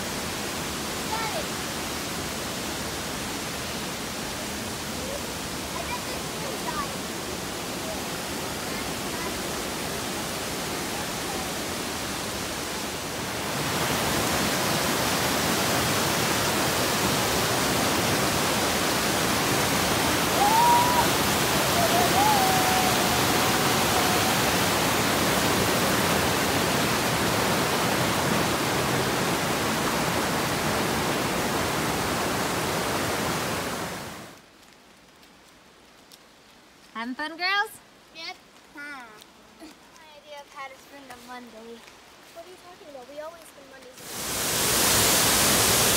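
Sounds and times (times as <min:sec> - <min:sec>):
stream water rushing: 0:00.0 - 0:34.5, 0:37.9 - 0:45.9.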